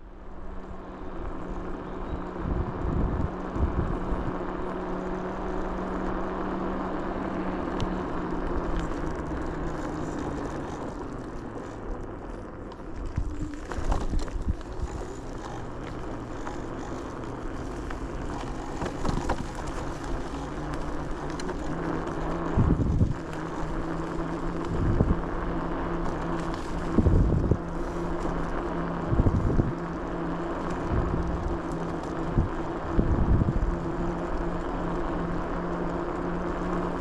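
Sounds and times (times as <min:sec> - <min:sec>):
vehicle engine humming: 0:00.0 - 0:37.0
wind buffeting microphone: 0:01.6 - 0:06.4, 0:07.7 - 0:35.5.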